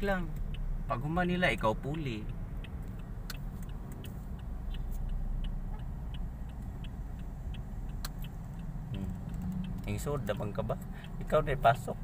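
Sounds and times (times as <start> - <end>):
low car engine rumble: 0.0 - 12.0
turn signal clicking: 0.0 - 12.0.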